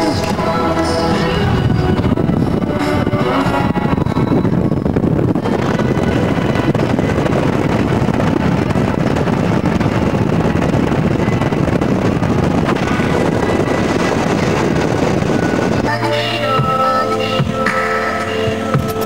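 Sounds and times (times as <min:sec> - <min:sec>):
wind and road noise: 0:00.0 - 0:19.0
wind buffeting microphone: 0:00.0 - 0:19.0.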